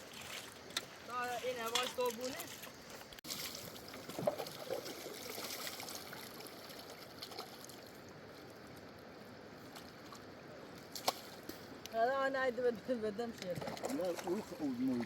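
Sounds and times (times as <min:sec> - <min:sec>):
water lapping around a boat: 0:00.0 - 0:11.8, 0:12.8 - 0:15.0.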